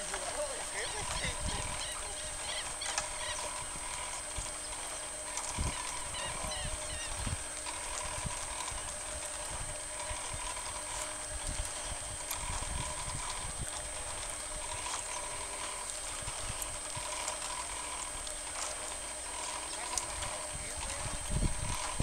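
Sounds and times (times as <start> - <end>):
wind buffeting microphone: 0.0 - 4.8, 5.4 - 17.9, 20.1 - 22.0
distant paramotor engine drone: 0.0 - 22.0.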